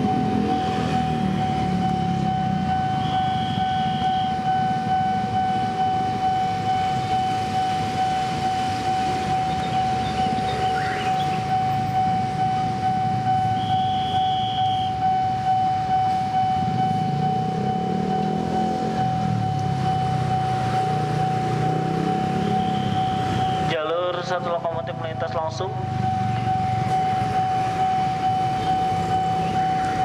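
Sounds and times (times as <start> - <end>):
idling traffic rumble: 0.0 - 30.0
level crossing alarm pulsing: 0.0 - 30.0.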